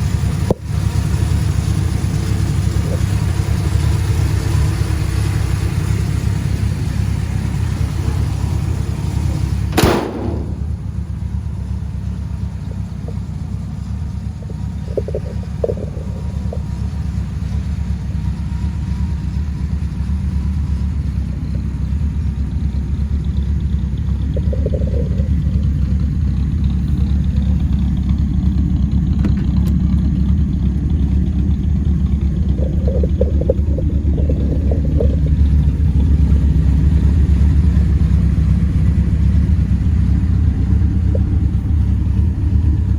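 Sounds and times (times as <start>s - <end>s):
pickup engine droning: 0.0s - 42.9s.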